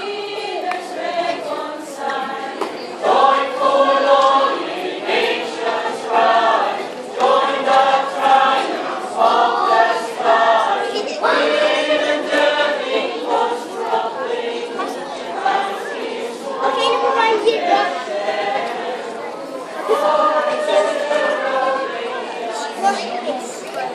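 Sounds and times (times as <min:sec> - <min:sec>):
mixed choir singing: 0:00.0 - 0:23.9.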